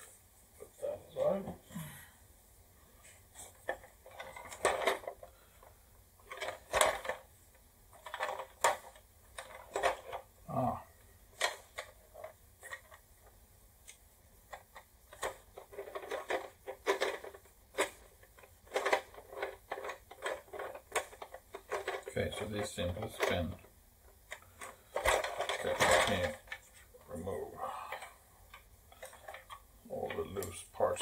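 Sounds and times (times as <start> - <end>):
plastic toy parts clicking and rattling: 3.5 - 7.3, 7.9 - 10.3, 11.3 - 13.1, 13.9 - 31.0.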